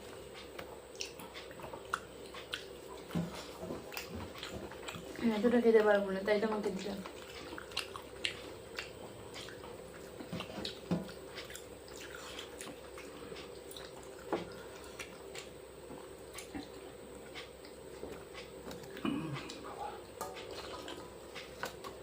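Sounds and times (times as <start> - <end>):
faint steady hum: 0.0 - 22.0
wet squishing and chewing: 0.2 - 6.0, 6.6 - 22.0.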